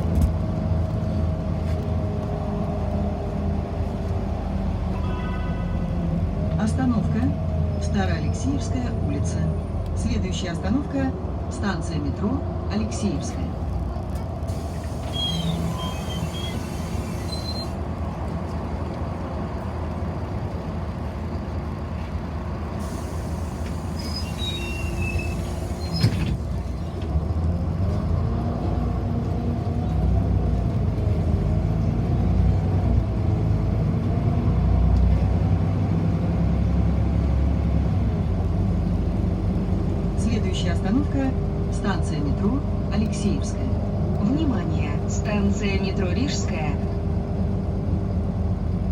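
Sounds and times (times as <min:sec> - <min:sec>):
bus accelerating with whine: 0:00.0 - 0:48.9
bus engine rumble: 0:00.0 - 0:48.9.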